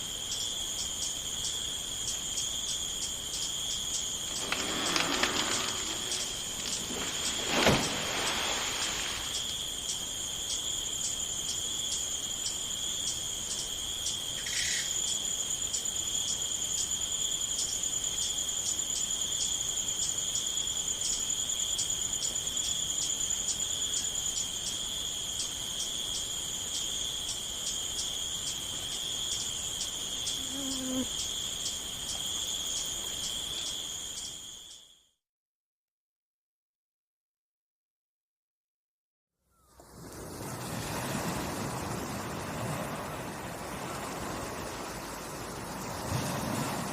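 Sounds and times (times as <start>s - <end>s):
crickets trilling: 0.0s - 35.1s, 39.5s - 46.9s.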